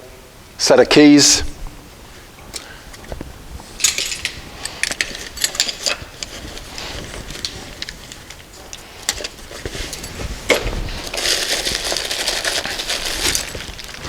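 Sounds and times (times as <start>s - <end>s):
rustling: 1.4s - 14.0s.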